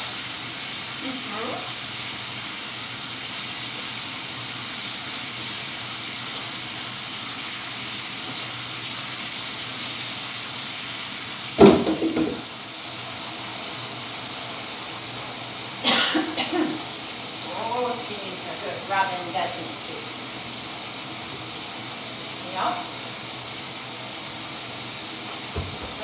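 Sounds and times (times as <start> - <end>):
water running into a tub: 0.0 - 26.0.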